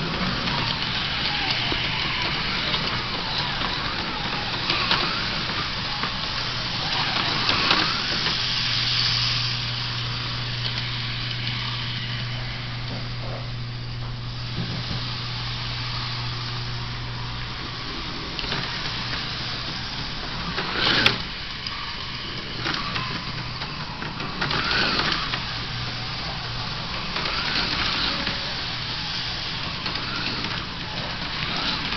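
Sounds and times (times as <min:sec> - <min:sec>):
small electric motor whirring: 0:00.0 - 0:31.9.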